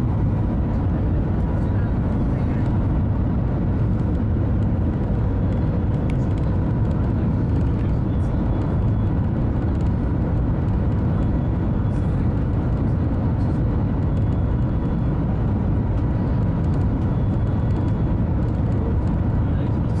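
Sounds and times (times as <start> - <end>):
train rumble inside cabin: 0.0 - 20.0.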